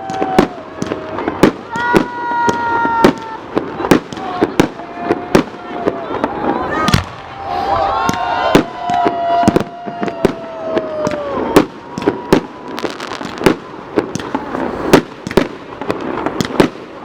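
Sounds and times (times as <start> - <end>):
whistling firework falling tone: 0.0 - 15.5
fireworks bangs: 0.0 - 17.0.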